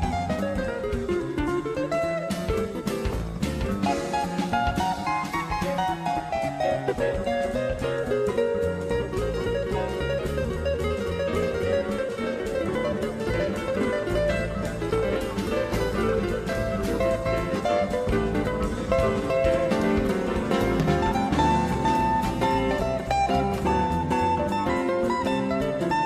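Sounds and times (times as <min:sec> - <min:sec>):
plucked acoustic guitar: 0:00.0 - 0:26.0
steady bass line: 0:00.0 - 0:26.0.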